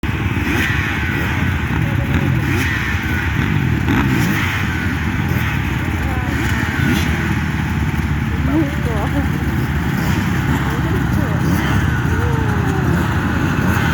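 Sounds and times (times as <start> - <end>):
small engine running: 0.1 - 13.9.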